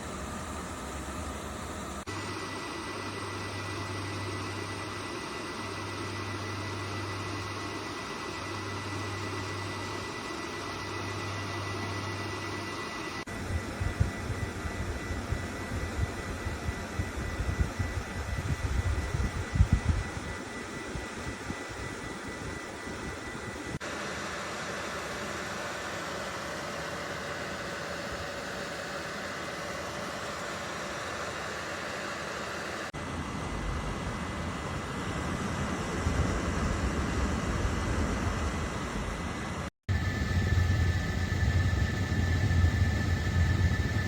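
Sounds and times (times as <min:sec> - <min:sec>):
fan heater rushing air: 0:00.0 - 0:44.0.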